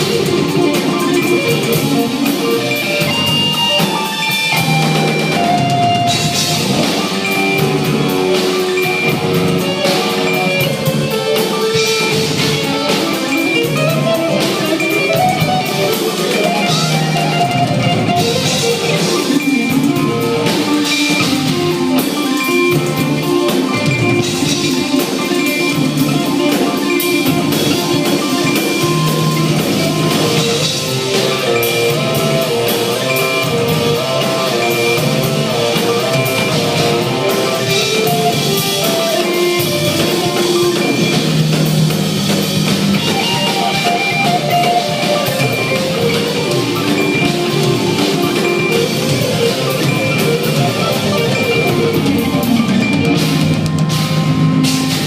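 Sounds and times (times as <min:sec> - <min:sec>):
drum kit: 0:00.0 - 0:55.0
electric guitar: 0:00.0 - 0:55.0.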